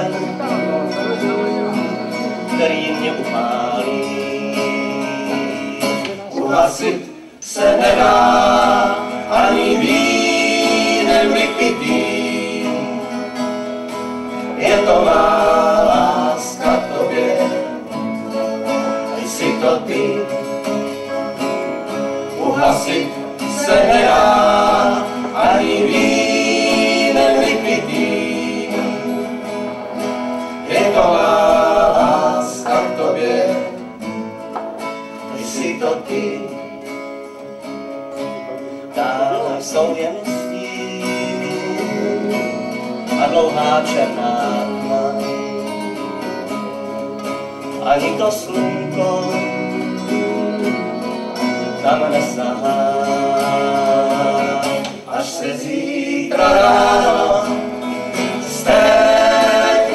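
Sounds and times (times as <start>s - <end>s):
men singing together: 0.0s - 34.1s, 35.2s - 36.9s, 38.9s - 46.1s, 47.6s - 59.9s
acoustic guitars strumming: 0.0s - 59.9s.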